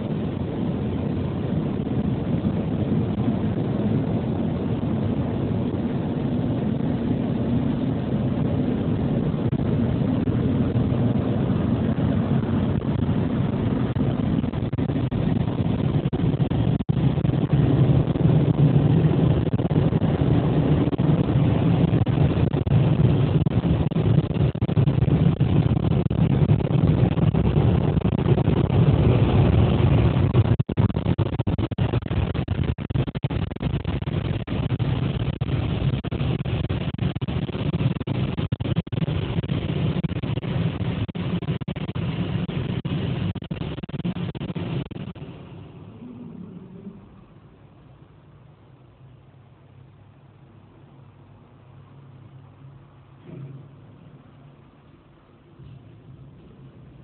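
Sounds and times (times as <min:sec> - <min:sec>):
car wash machinery rumbling: 0:00.0 - 0:57.0.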